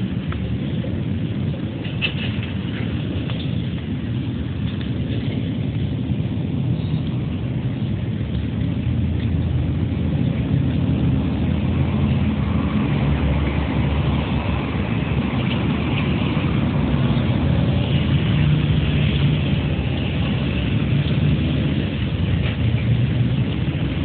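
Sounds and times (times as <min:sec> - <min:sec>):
steady low rumbling: 0:00.0 - 0:24.0.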